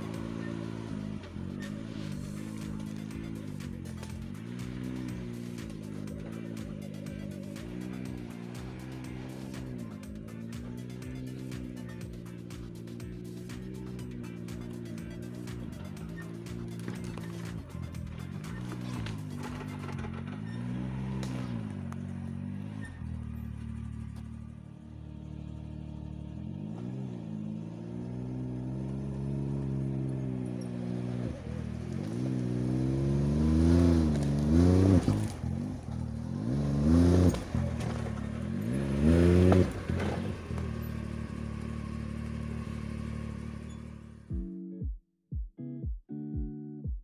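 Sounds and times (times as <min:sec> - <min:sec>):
buggy engine revving: 0:00.0 - 0:44.4.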